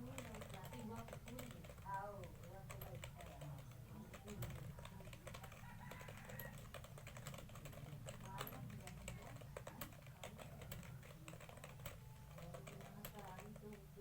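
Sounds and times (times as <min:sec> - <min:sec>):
fast keyboard typing: 0:00.0 - 0:14.0.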